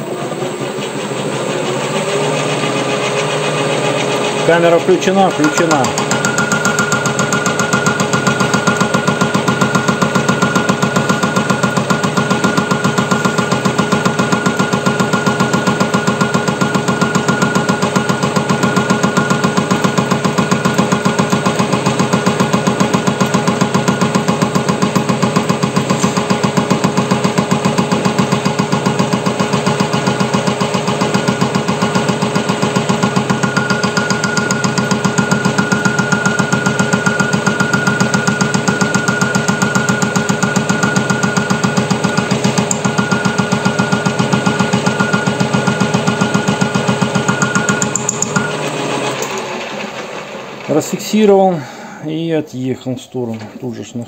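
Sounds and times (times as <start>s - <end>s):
metal lathe whining: 0.0s - 52.2s.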